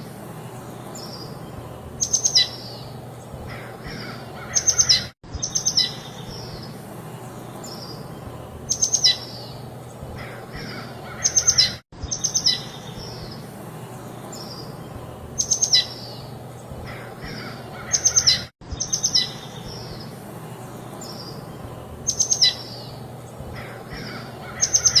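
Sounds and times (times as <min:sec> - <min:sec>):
light breeze hiss: 0:00.0 - 0:25.0
small birds chirping: 0:00.0 - 0:25.0.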